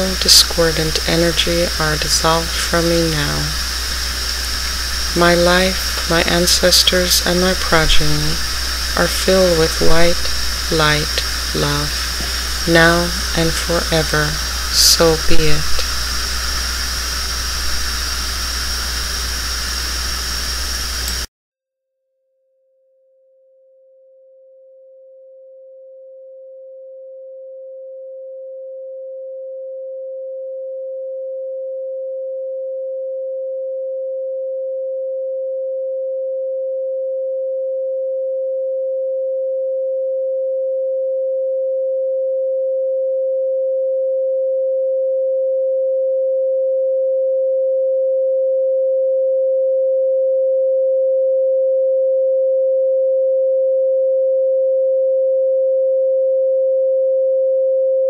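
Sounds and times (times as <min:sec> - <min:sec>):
pure sine tone: 0:00.0 - 0:21.3, 0:23.6 - 0:58.0.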